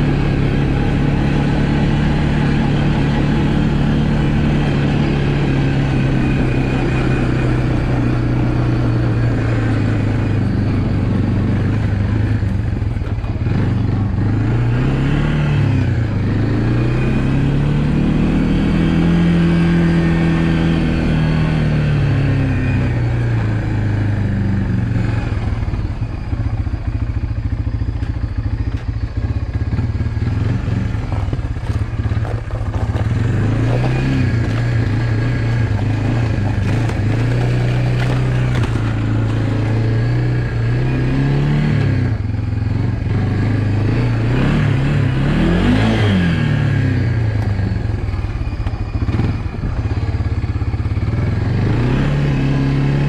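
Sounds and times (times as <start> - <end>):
atv engine revving while riding: 0.0 - 53.0.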